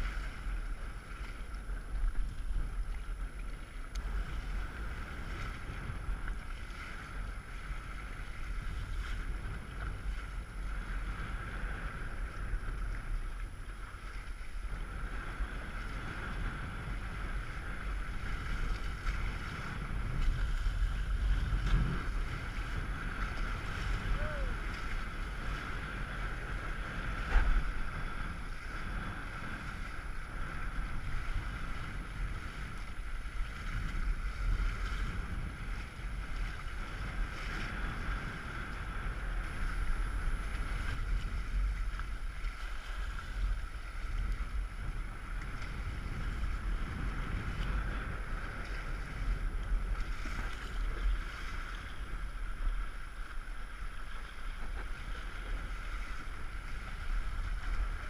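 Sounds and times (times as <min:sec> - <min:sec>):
water rushing along hulls: 0:00.0 - 0:58.0
wind buffeting microphone: 0:00.0 - 0:58.0.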